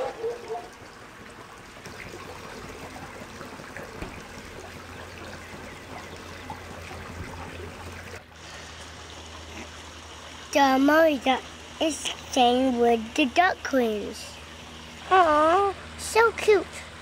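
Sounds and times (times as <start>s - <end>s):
water trickling in a pool: 0.0s - 17.0s.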